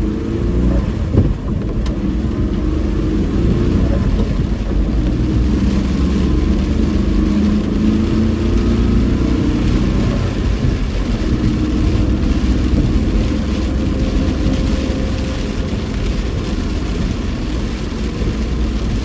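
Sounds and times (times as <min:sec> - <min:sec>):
car engine rumble: 0:00.0 - 0:19.0
constant road hiss: 0:00.0 - 0:19.0.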